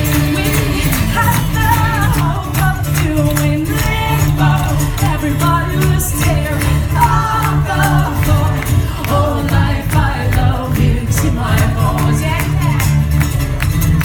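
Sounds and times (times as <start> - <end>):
woman singing: 0.0 - 13.0
loud bass line: 0.0 - 14.0.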